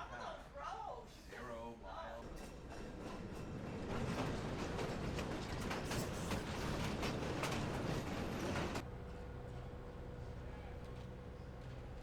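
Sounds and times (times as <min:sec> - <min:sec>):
train cars rumbling on track: 0:02.3 - 0:12.0.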